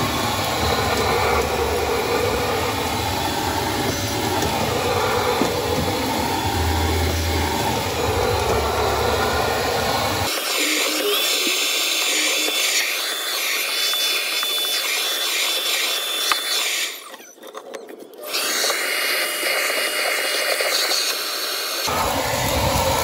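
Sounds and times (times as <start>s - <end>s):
stick vacuum cleaner running: 0.0s - 23.0s.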